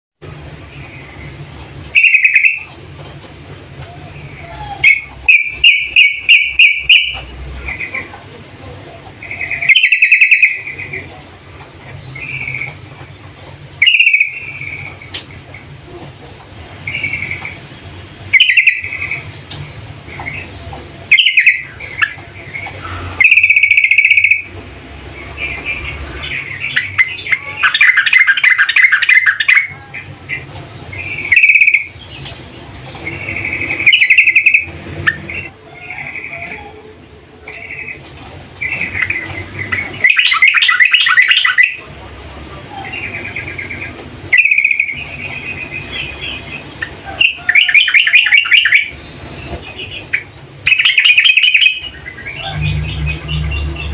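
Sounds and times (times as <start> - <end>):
bulbul calling: 0.7 - 53.9.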